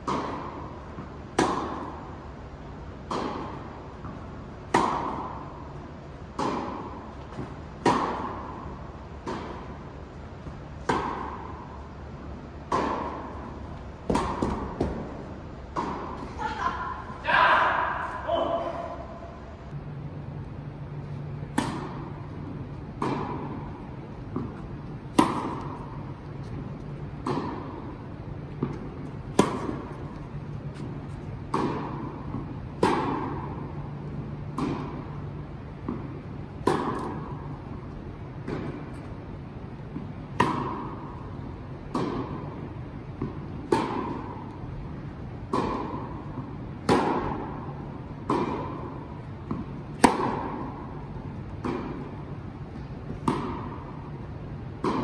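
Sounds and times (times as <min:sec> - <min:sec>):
tennis ball bouncing on hard court: 0:00.0 - 0:16.4, 0:20.8 - 0:55.0
tennis ball struck by rackets: 0:00.0 - 0:17.0, 0:21.0 - 0:55.0.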